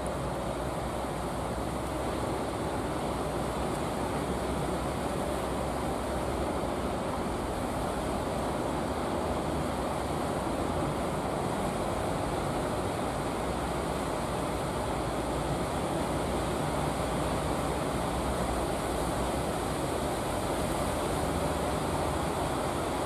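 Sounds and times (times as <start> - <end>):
boat engines droning: 0.0 - 23.0.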